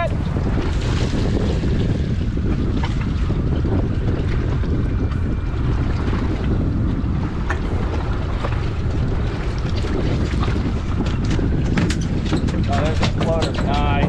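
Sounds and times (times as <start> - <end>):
water sloshing around hull: 0.0 - 14.0
wind rumbling on microphone: 0.0 - 14.0.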